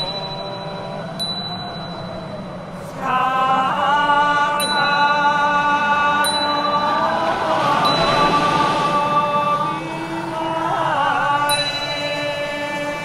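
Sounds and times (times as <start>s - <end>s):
person chanting slowly: 0.0s - 13.0s
soft rushing hiss: 2.4s - 13.0s.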